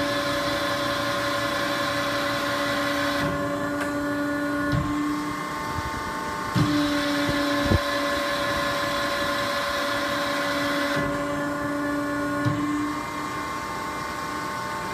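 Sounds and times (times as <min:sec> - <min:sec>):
machine humming and whining: 0:00.0 - 0:14.9.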